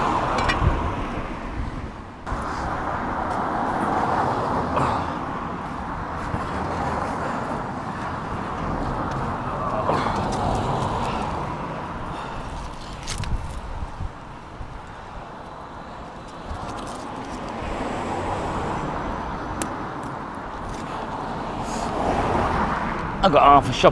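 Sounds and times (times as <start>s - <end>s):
road traffic hiss: 0.0s - 23.9s.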